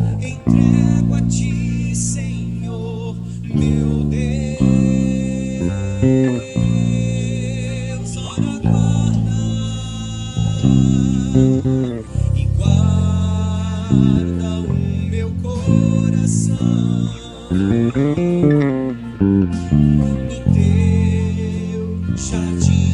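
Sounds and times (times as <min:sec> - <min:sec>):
electric bass guitar: 0:00.0 - 0:22.9
person singing: 0:00.0 - 0:22.9
worship band music: 0:00.0 - 0:22.9.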